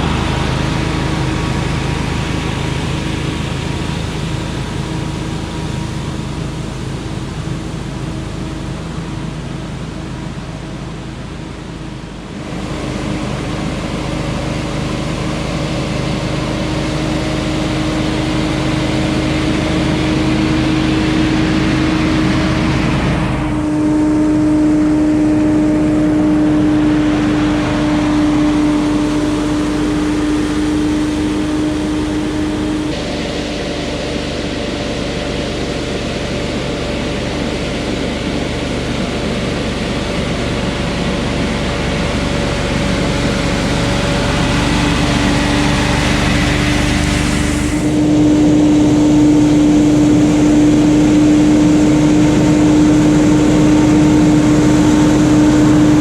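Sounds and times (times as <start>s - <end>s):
loud rush of air: 0.0s - 8.2s, 10.8s - 56.0s
debris blower engine whine: 0.0s - 56.0s.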